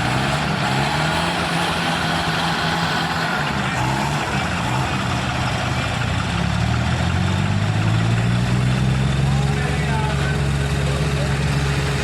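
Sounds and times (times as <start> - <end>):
diesel tractor engines droning: 0.0 - 12.0.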